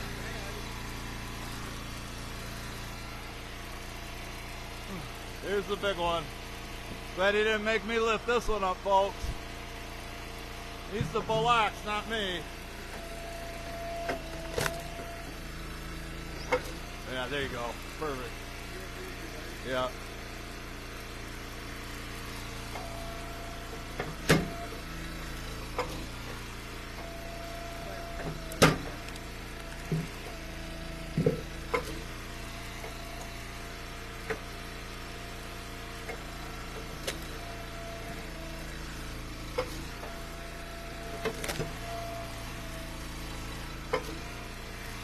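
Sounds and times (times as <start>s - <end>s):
log splitter engine running: 0.0s - 45.0s.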